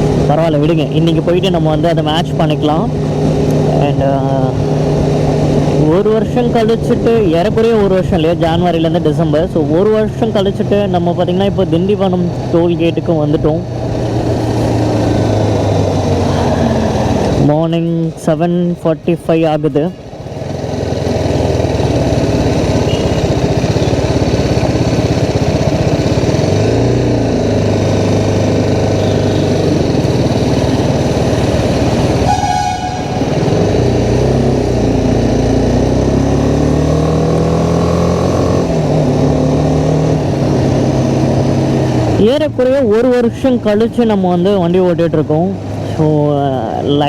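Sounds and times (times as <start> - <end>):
motorcycle engine running: 0.0 - 18.6, 20.0 - 47.0.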